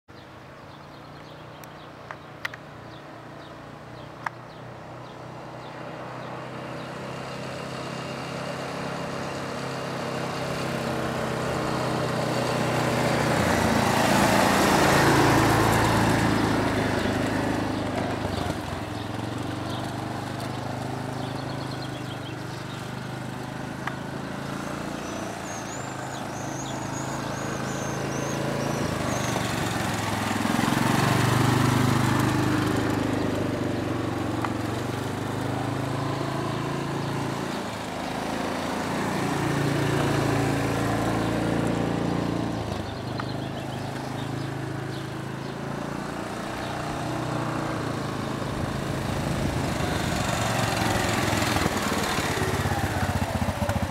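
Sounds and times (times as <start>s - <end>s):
quad bike engine running: 1.0s - 53.9s.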